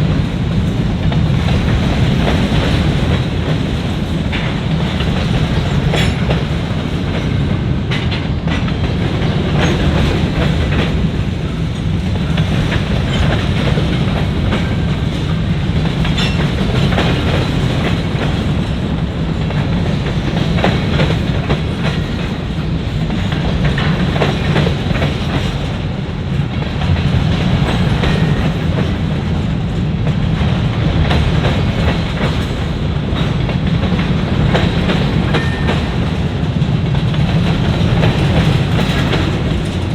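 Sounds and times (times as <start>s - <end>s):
wheels clicking over rail joints: 0.1s - 39.9s.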